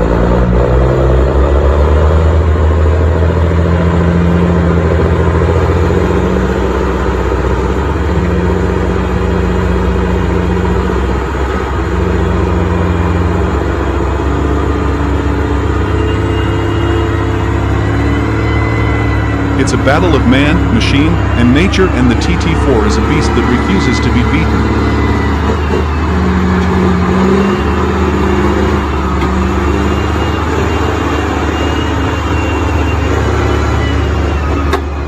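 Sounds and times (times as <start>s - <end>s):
heavy vehicle engine droning: 0.0s - 35.0s.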